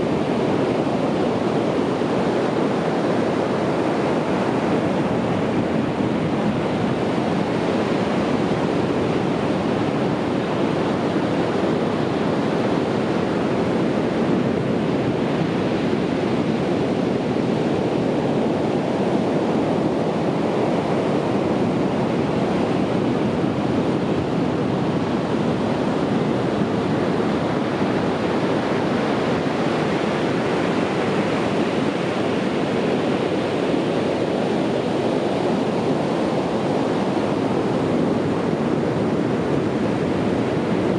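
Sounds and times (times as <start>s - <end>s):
sea surf washing on a beach: 0.0s - 40.9s.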